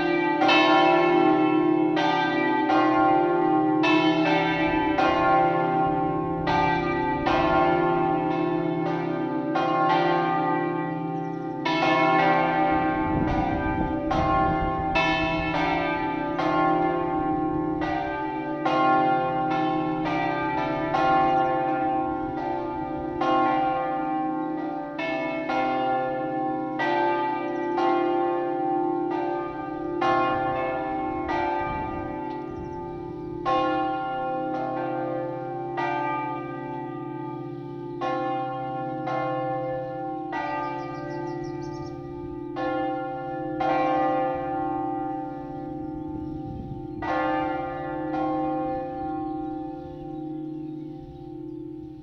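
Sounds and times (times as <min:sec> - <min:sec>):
church bells ringing: 0:00.0 - 0:52.0.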